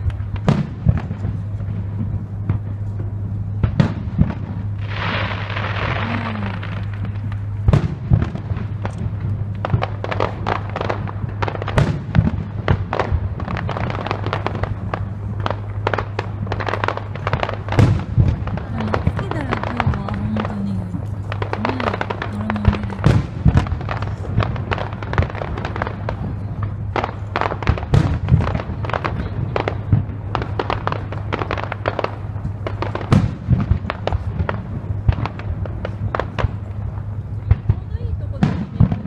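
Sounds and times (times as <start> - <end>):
fireworks bursting: 0.0 - 39.0
fireworks crackling: 0.0 - 39.0.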